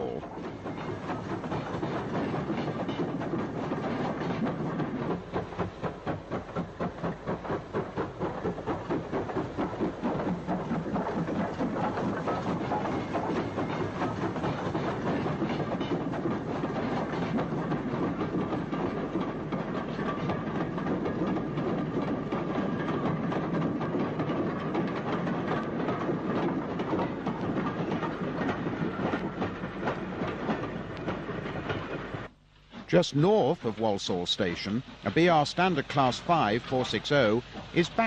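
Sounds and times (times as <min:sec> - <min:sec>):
steam locomotive rhythmic beats: 0:00.0 - 0:38.0
train rumble and clatter: 0:00.0 - 0:38.0.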